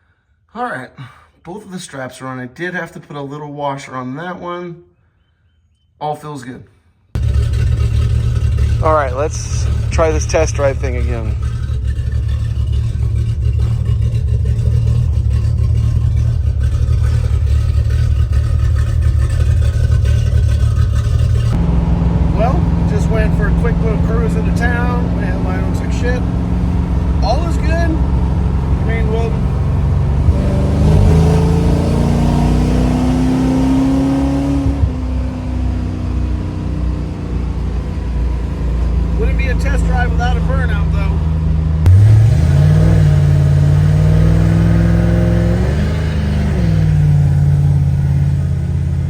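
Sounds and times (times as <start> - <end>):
car engine running deep: 7.2 - 49.0.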